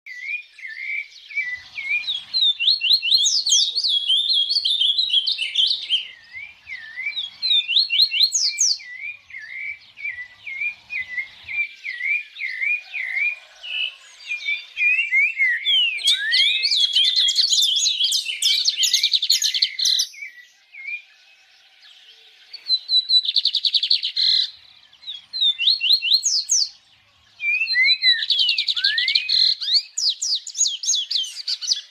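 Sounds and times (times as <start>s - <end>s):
songbird singing: 0.1s - 31.9s.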